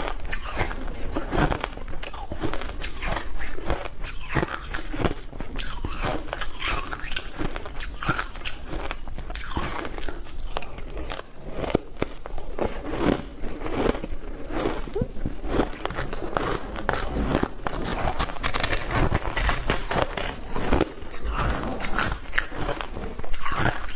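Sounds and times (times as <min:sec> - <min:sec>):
ice being chewed: 0:00.0 - 0:23.9.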